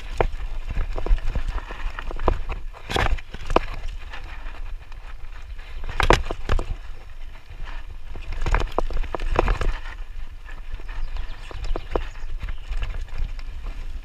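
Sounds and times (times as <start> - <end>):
bike rattling over bumps: 0.0 - 14.0
bike tyres rumbling on dirt: 0.0 - 14.0.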